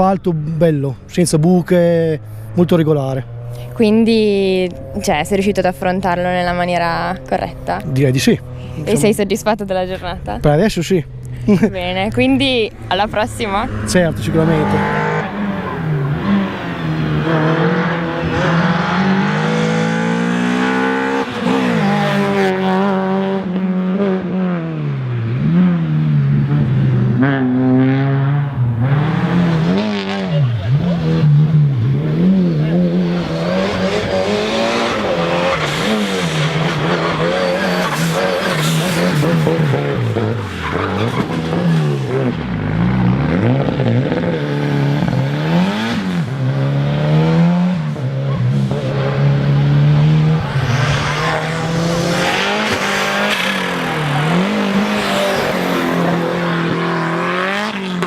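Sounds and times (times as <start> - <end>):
race car engine at high revs: 2.0 - 9.1, 12.7 - 58.0.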